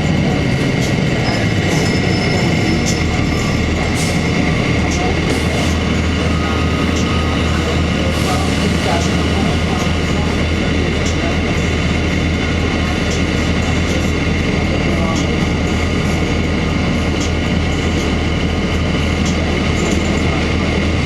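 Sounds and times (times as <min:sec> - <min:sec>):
bus diesel engine hum: 0:00.0 - 0:21.0
road noise: 0:00.0 - 0:21.0.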